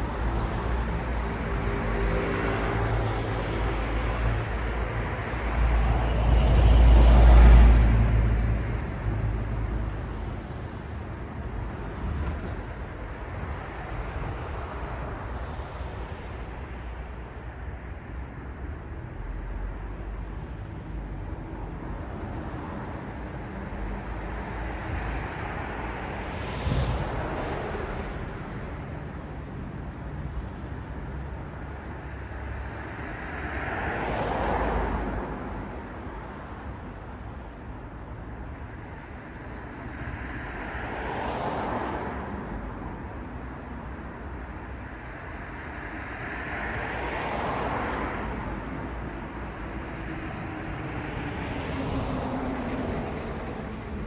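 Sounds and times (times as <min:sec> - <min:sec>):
vehicles passing close by: 0:00.0 - 0:16.8, 0:20.0 - 0:54.0
hum of traffic: 0:00.0 - 0:54.0.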